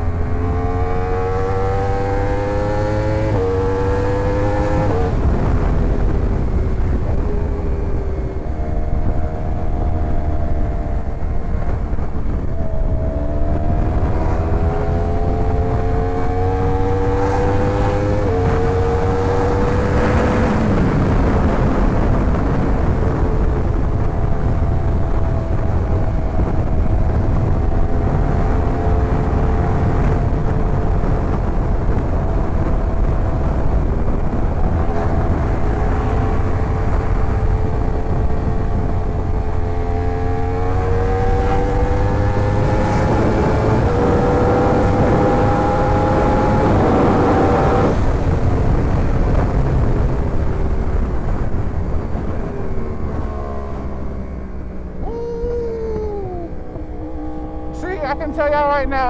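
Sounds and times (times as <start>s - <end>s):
motorcycle engine accelerating: 0.0s - 59.0s
wind rumble on microphone: 0.0s - 59.0s.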